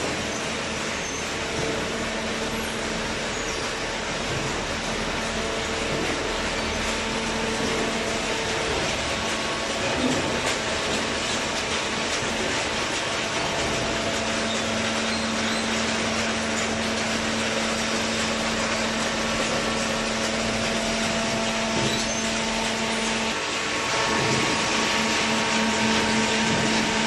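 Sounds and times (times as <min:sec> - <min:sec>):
baler machine noise: 0:00.0 - 0:27.0.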